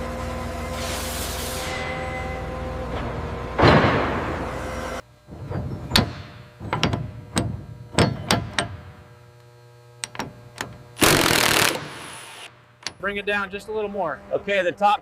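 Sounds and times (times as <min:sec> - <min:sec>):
workshop machine hum: 0:00.0 - 0:15.0.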